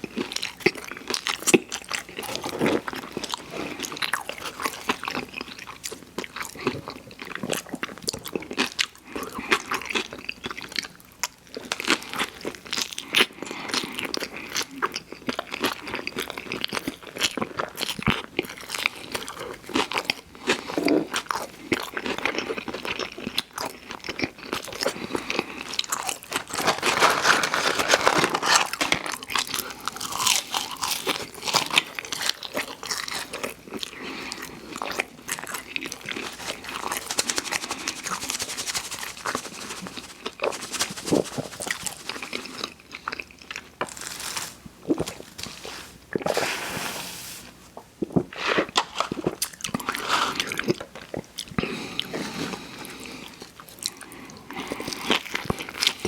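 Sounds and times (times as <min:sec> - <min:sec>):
crunchy chewing of food: 0:00.0 - 0:46.8, 0:47.5 - 0:56.0.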